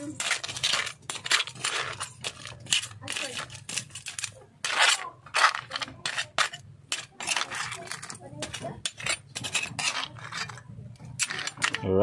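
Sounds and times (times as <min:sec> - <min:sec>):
metal spoon scraping cooking pot: 0:00.0 - 0:12.0.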